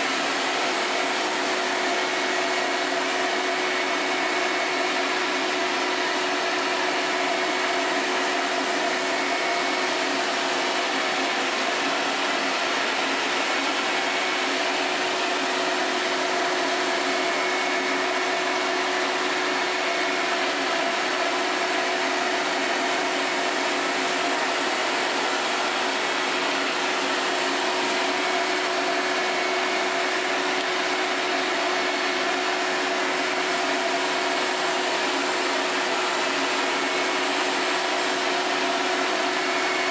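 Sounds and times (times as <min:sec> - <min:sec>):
shop vacuum whining: 0:00.0 - 0:39.9.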